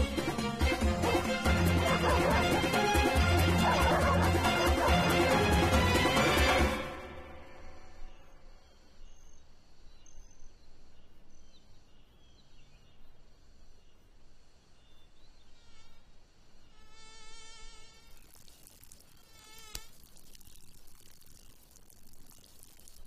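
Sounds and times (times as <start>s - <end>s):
insects buzzing: 0.0s - 11.3s, 12.4s - 23.0s.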